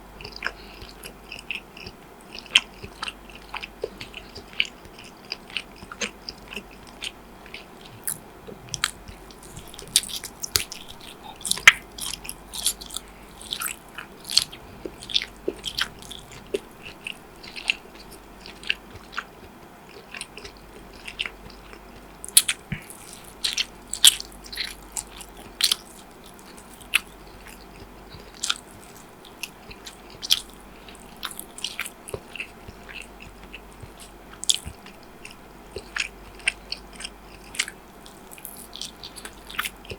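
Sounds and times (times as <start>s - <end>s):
crisp biting and chewing: 0.2s - 39.9s.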